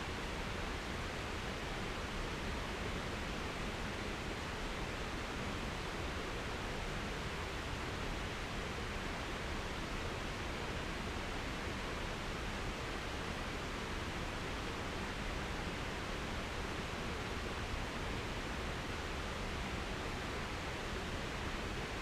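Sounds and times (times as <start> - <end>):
steady rushing noise outdoors: 0.0 - 22.0.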